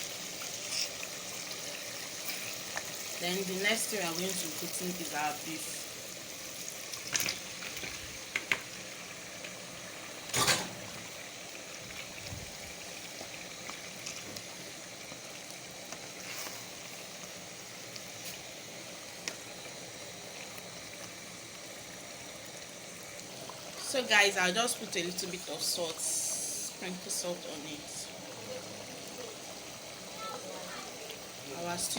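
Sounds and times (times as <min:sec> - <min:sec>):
stew simmering and bubbling: 0:00.0 - 0:31.9.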